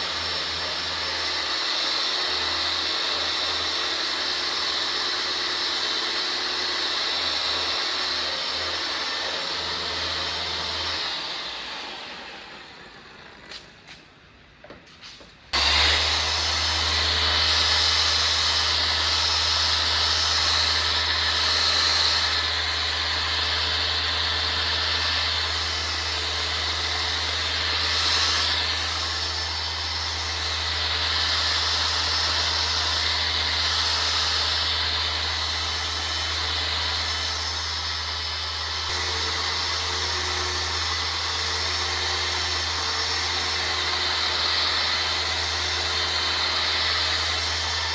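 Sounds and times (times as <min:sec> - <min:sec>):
power sander running: 0:00.0 - 0:14.0, 0:15.0 - 0:47.9.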